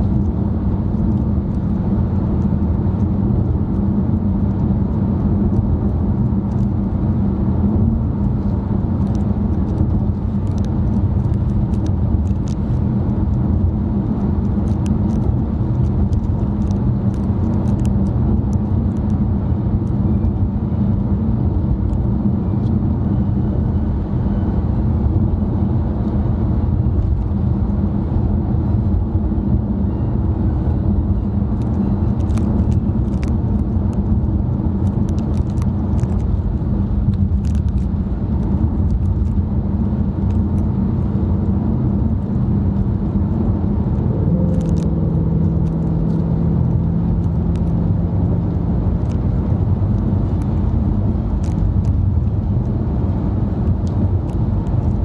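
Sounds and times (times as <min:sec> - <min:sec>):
tyre and engine rumble: 0:00.0 - 0:55.0.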